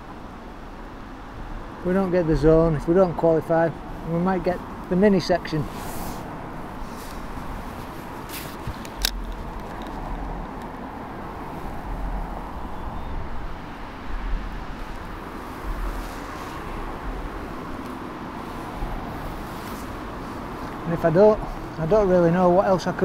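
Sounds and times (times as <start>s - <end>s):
road traffic noise: 0.0s - 23.0s
wind buffeting microphone: 1.4s - 23.0s.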